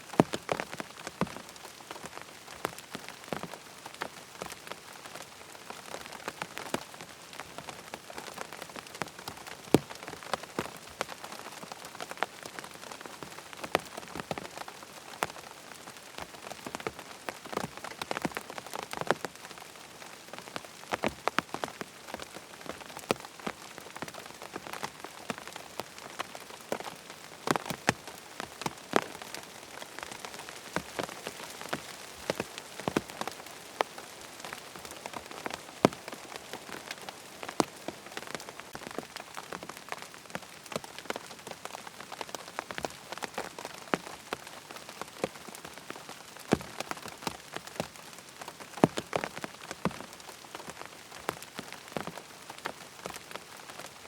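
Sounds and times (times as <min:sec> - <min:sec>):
rain pattering on a tent: 0:00.0 - 0:54.0.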